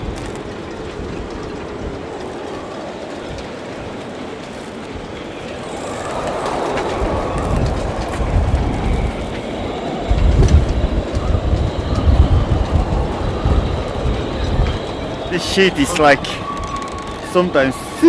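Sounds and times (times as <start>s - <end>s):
wind gusting over microphone: 0.0s - 18.0s.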